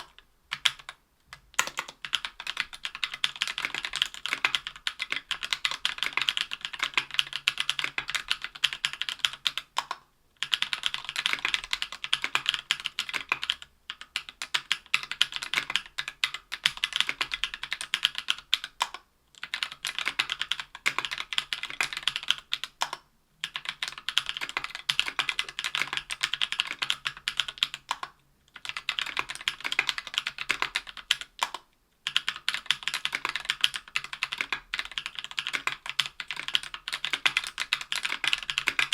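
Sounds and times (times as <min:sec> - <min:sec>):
fast typing on keyboard: 0:00.0 - 0:01.0, 0:01.6 - 0:38.9.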